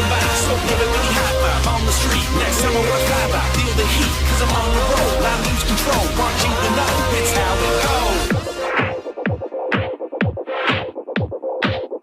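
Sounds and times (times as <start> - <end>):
hip-hop music with vocals: 0.0 - 12.0.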